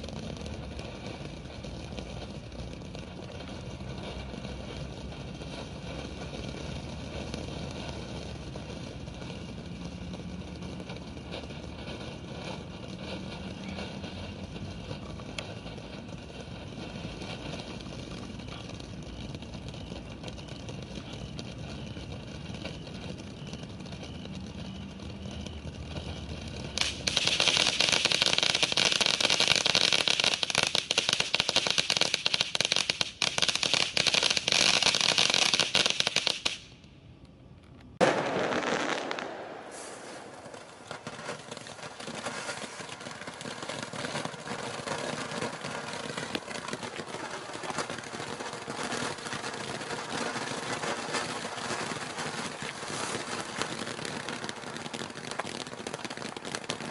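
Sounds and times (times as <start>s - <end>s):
firework fountain spraying sparks: 0.0s - 36.8s, 38.0s - 56.9s
dense firework crackling: 0.0s - 56.9s.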